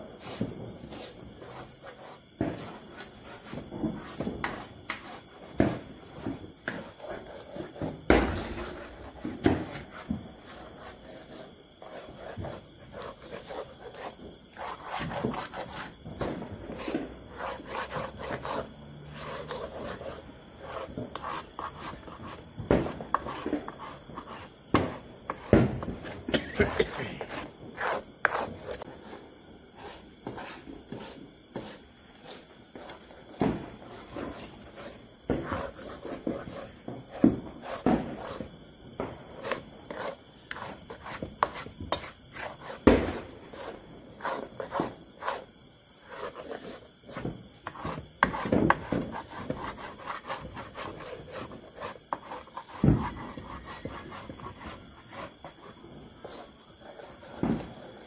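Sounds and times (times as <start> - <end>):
spatula scraping steel pan: 0.0 - 38.5, 39.4 - 58.0
crickets trilling: 0.0 - 58.0.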